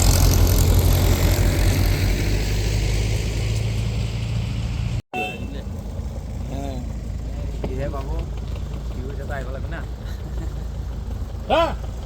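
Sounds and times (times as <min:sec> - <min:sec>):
vehicle engine deep rumble: 0:00.0 - 0:12.0.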